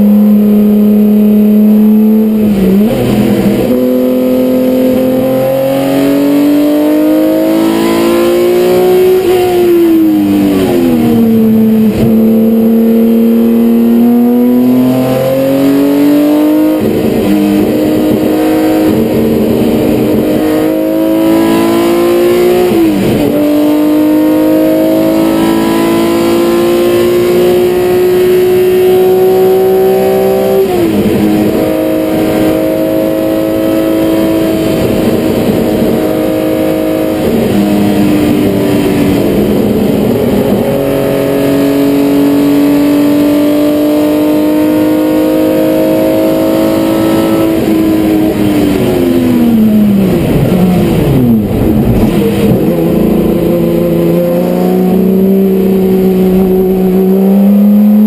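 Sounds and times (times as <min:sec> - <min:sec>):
racing engine accelerating: 0:00.0 - 0:58.0.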